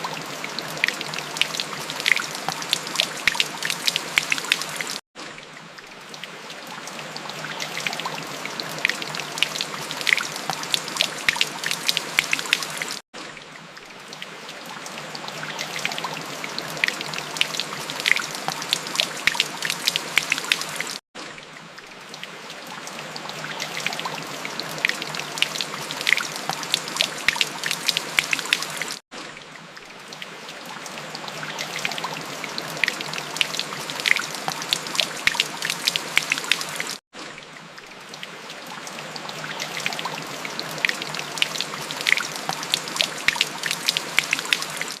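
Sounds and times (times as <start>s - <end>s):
steady rain: 0.0s - 5.0s, 5.8s - 13.0s, 14.1s - 21.0s, 22.1s - 29.0s, 30.2s - 37.0s, 38.1s - 45.0s.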